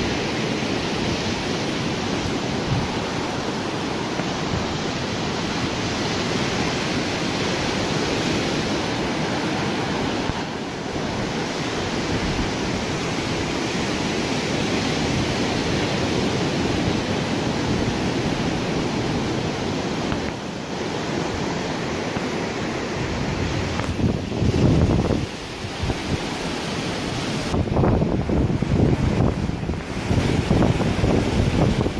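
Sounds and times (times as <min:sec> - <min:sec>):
ocean waves breaking: 0:00.0 - 0:31.9
wind rumbling on microphone: 0:00.0 - 0:31.9.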